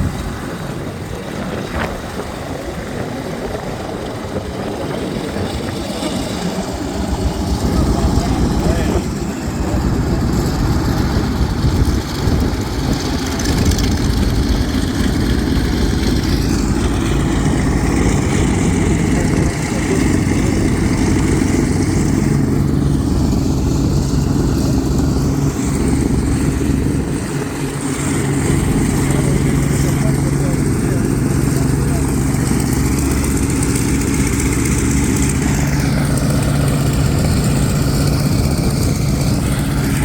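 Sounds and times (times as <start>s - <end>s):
radial aircraft engine running: 0.0s - 40.0s.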